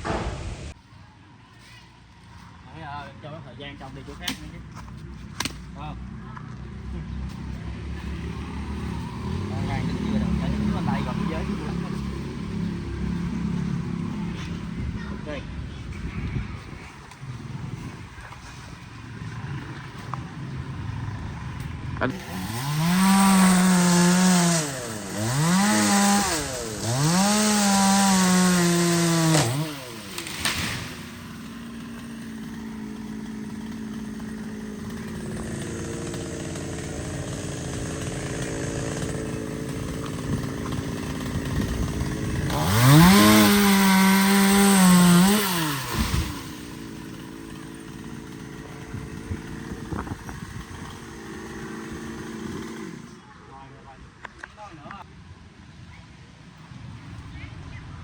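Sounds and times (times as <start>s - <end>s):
chainsaw revving and idling: 5.6s - 16.0s, 17.2s - 53.3s.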